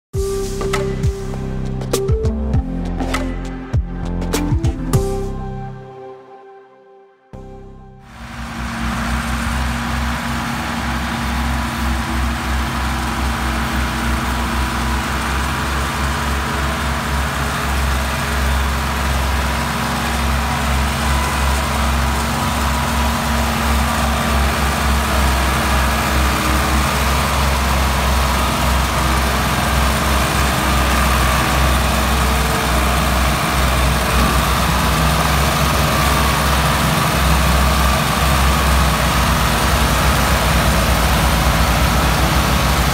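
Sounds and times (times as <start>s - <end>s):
diesel tractor engines running hard: 0.2s - 5.8s, 7.4s - 42.9s.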